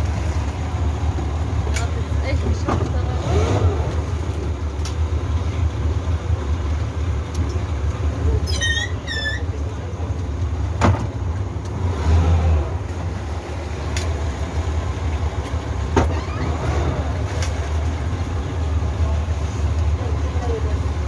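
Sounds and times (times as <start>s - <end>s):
motor vehicle rumbling: 0.0s - 21.0s.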